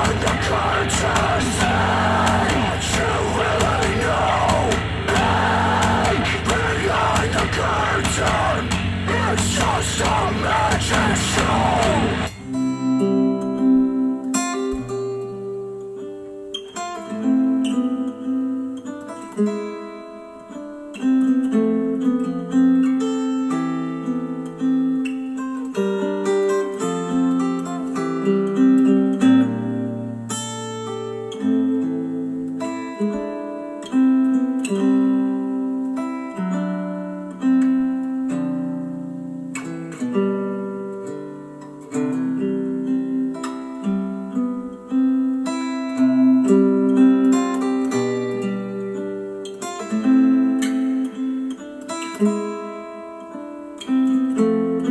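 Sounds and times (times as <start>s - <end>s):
plucked acoustic guitar music: 0.0s - 54.9s.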